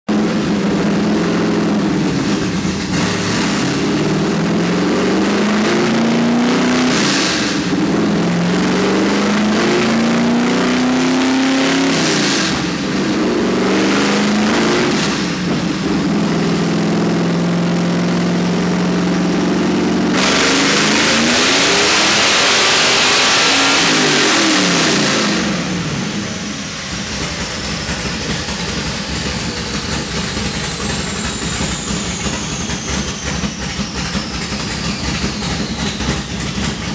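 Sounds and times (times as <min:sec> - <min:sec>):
car engine revving on a dyno: 0:00.1 - 0:36.9
high whine dropping in pitch: 0:00.2 - 0:36.9.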